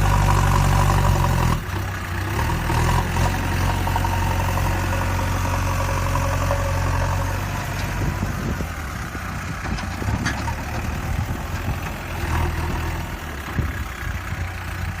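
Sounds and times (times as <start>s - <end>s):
backhoe engine idling: 0.0s - 15.0s.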